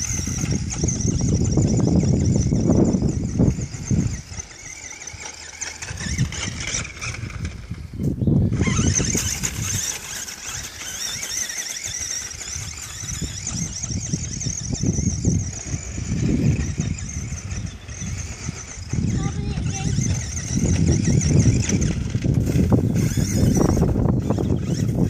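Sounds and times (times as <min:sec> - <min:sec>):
electric motor and gears whining: 0:00.0 - 0:25.0.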